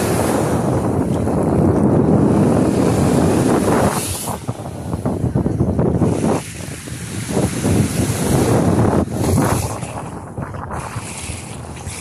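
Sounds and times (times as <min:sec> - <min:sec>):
small waves on sandy shore: 0:00.0 - 0:12.0
wind buffeting microphone: 0:00.0 - 0:12.0.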